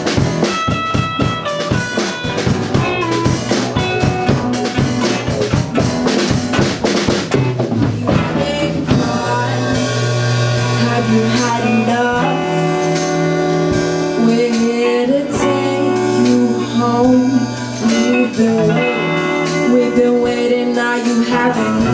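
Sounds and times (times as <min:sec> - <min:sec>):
busy drum passage: 0:00.0 - 0:21.9
rock band playing: 0:00.0 - 0:21.9.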